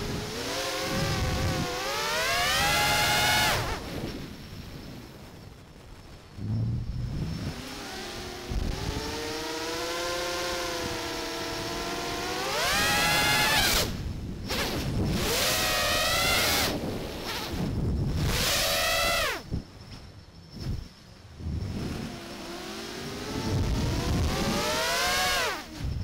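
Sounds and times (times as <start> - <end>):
drone motors and propellers whining: 0.0 - 26.0.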